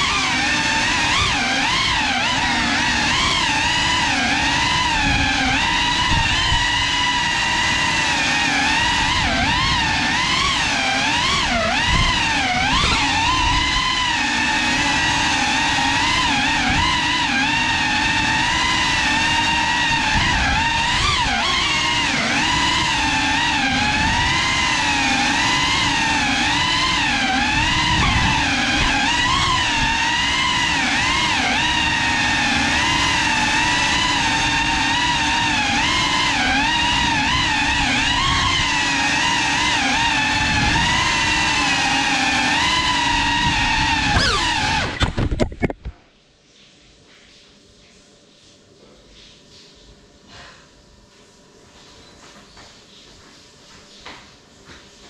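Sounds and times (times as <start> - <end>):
drone motors whining: 0.0 - 45.8.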